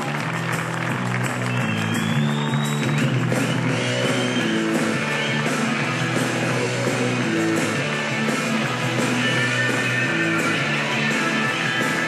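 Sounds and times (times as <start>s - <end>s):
rock music with guitar: 0.4s - 12.0s.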